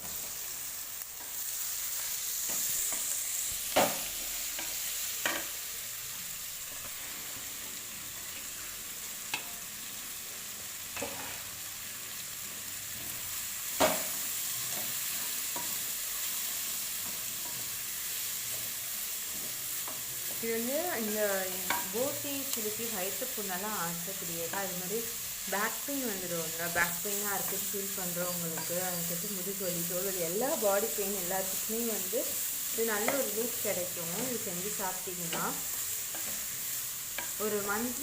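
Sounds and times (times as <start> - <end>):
onions sizzling in oil: 0.0 - 38.0.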